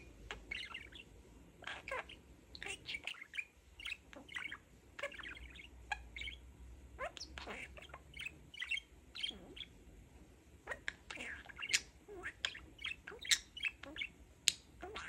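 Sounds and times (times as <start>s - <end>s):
budgerigar chattering: 0.0s - 6.4s, 7.0s - 9.8s, 10.7s - 14.2s, 14.8s - 15.0s.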